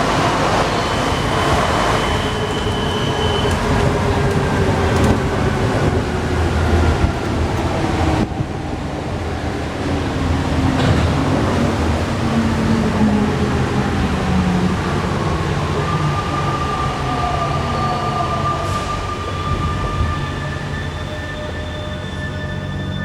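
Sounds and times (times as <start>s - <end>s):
low train rumble: 0.0s - 23.0s
metro train whine: 0.0s - 23.0s.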